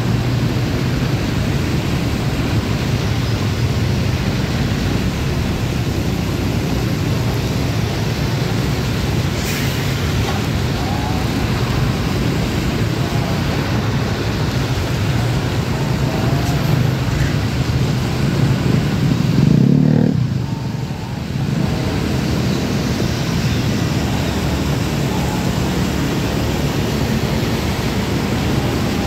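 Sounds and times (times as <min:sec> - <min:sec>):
road and wind noise: 0:00.0 - 0:29.0
truck traffic: 0:00.0 - 0:29.0.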